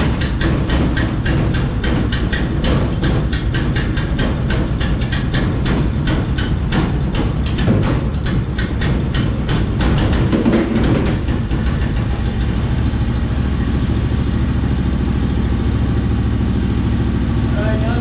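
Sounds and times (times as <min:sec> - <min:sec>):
rhythmic clatter: 0:00.0 - 0:18.0
small gas engine idling: 0:00.0 - 0:18.0.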